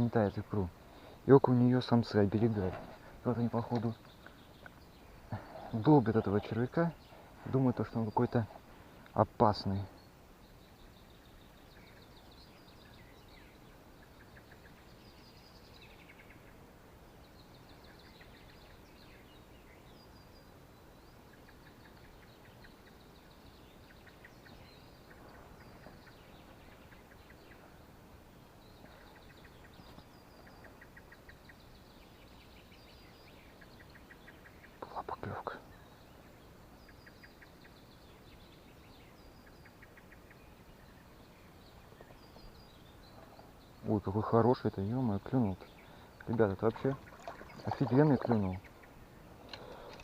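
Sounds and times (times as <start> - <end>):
low steady hiss: 0.0 - 50.0
songbirds chirping and trilling: 0.0 - 50.0.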